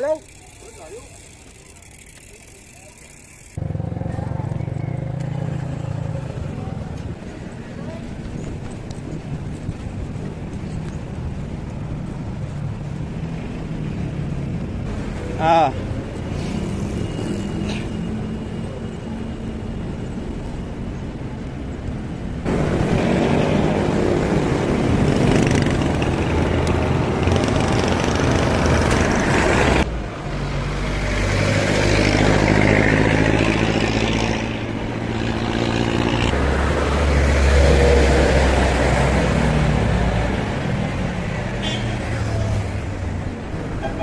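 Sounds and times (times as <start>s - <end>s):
vehicle engines in road traffic: 0.0s - 44.0s.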